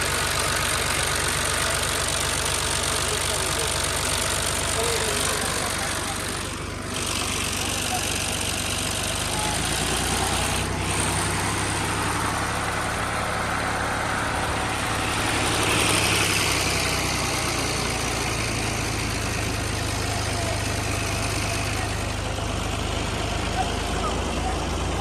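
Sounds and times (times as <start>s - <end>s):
thresher working noise: 0.0s - 25.0s
tractor diesel engine running: 0.0s - 25.0s.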